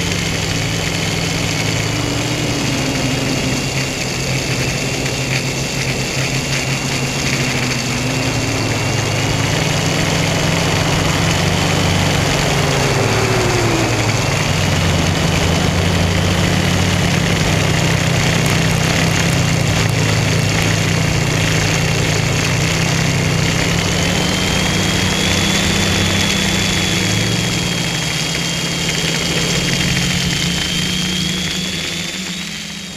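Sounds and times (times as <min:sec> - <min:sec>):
drone motors buzzing: 0:00.0 - 0:32.9
high wavering whine: 0:00.0 - 0:32.9.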